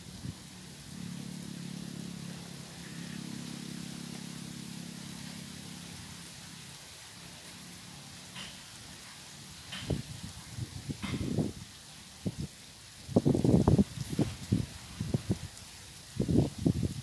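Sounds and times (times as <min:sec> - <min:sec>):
distant vehicle engine hum: 0:00.0 - 0:15.4
steady outdoor hiss: 0:00.0 - 0:17.0.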